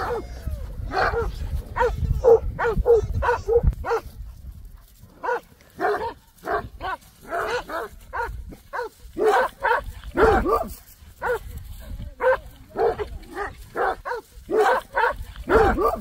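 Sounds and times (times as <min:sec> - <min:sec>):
dogs barking: 0:00.9 - 0:04.1, 0:05.2 - 0:11.5, 0:12.2 - 0:16.0.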